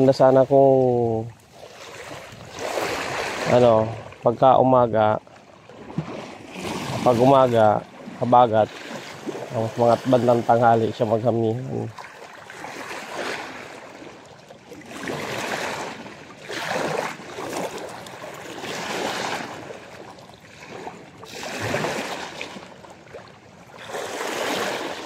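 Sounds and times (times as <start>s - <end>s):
sea waves washing in: 0.0s - 25.0s.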